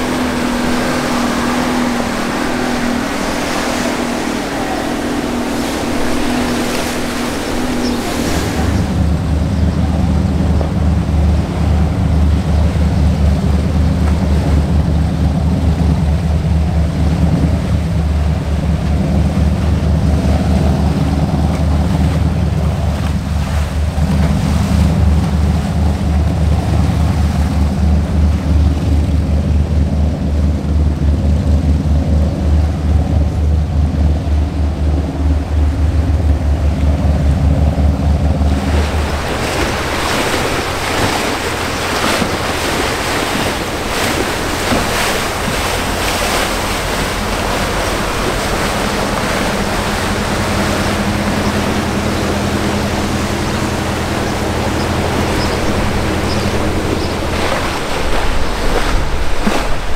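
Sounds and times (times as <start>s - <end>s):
churning water: 0.0s - 59.9s
powerboat engines rumbling: 0.0s - 59.9s.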